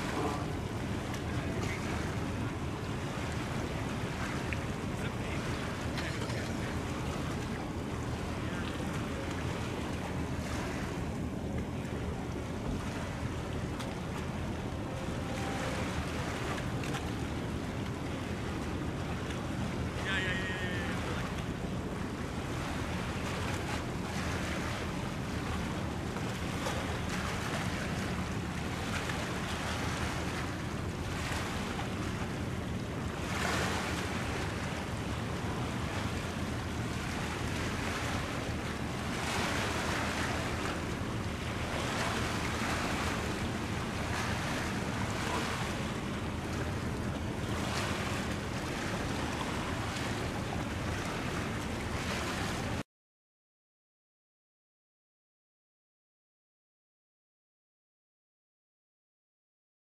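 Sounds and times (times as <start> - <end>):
waves washing in: 0.0 - 52.8.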